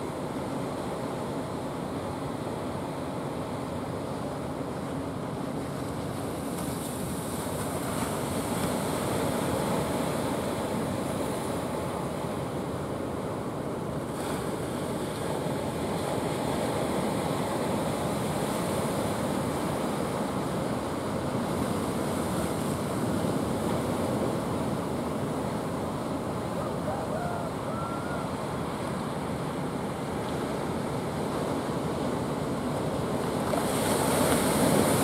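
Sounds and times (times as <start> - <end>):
waves rushing: 0.0 - 35.0.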